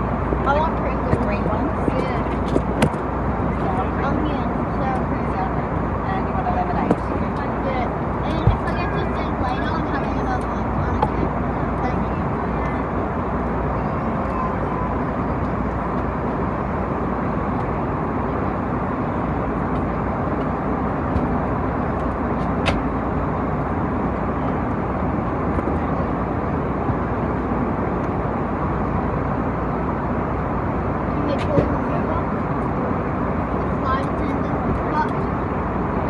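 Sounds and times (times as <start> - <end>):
airliner cabin roar: 0.0 - 36.0.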